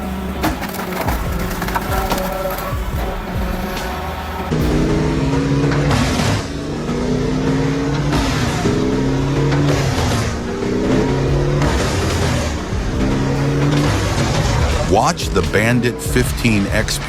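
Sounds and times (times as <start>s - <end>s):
wood chipper engine running hard: 0.0s - 17.0s.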